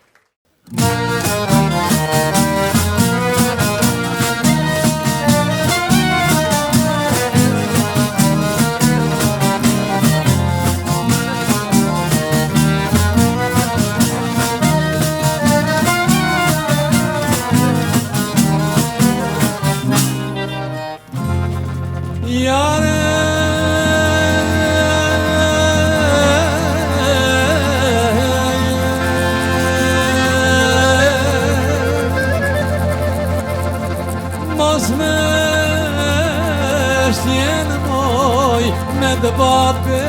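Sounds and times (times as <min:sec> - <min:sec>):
folk dance music: 0:00.7 - 0:40.0.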